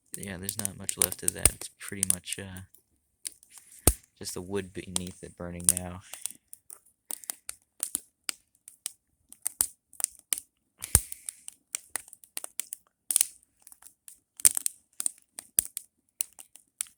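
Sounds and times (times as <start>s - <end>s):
burning wood crackling and popping: 0.0s - 16.9s.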